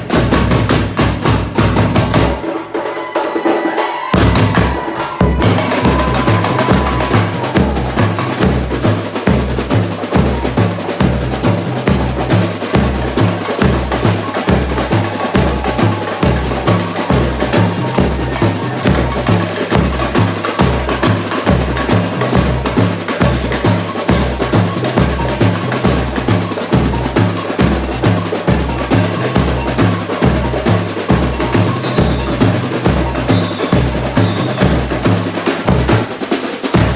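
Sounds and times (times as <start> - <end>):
bass drums beating: 0.0 - 2.4, 4.2 - 36.1
hand percussion: 0.0 - 36.9
snare drums: 0.0 - 36.9.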